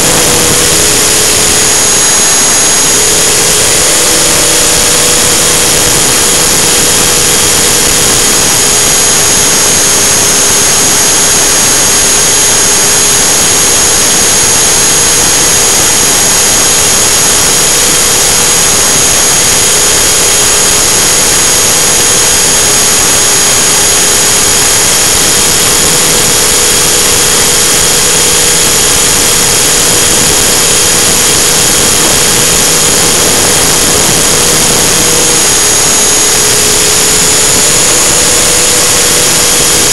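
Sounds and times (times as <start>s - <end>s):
rc helicopter drone: 0.0s - 39.9s.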